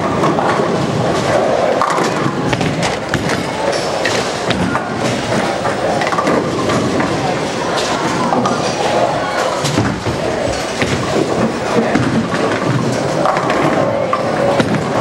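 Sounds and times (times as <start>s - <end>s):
bowling ball rolling: 0.0s - 15.0s
murmur of voices: 0.0s - 15.0s.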